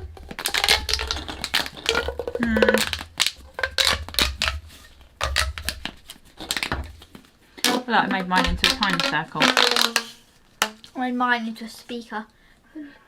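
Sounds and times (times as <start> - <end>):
plastic pop tubes clicking: 0.0 - 10.9.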